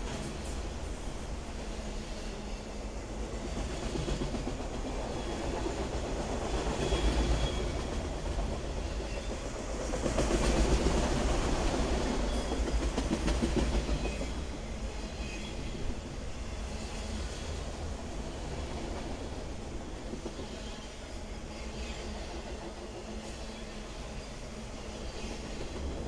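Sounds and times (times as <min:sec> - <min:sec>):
clickety-clack at rail joints: 0:00.0 - 0:26.0
freight train wheels rumbling: 0:00.0 - 0:26.0.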